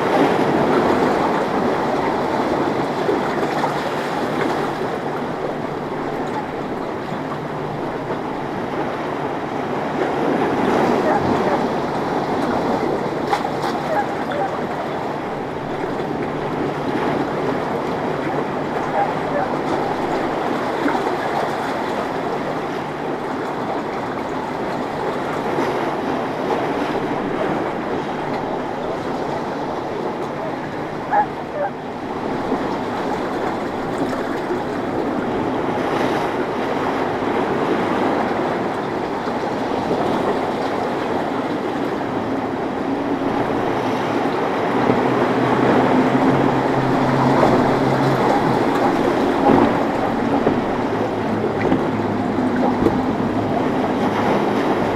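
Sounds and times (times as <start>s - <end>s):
motorboat engines rumbling: 0.0s - 54.9s
waves and surf: 0.0s - 54.9s.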